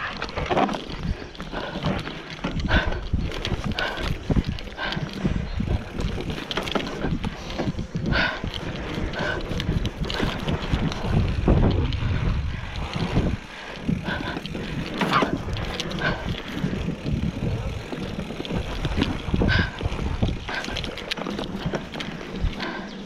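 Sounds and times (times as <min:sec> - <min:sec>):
bike rattling clicks and knocks: 0:00.0 - 0:23.0
tyres rumbling on dirt: 0:00.0 - 0:23.0
wind on microphone: 0:00.0 - 0:23.0.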